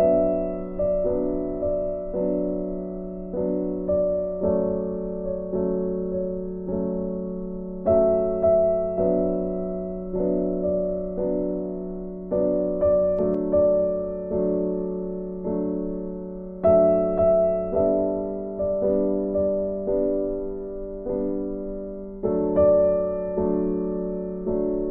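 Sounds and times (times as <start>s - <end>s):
soft keyboard chords: 0.0s - 24.9s.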